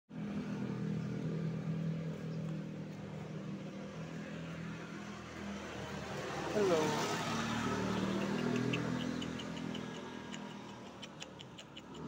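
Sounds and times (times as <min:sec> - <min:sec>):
engine running steadily: 0:00.1 - 0:12.0.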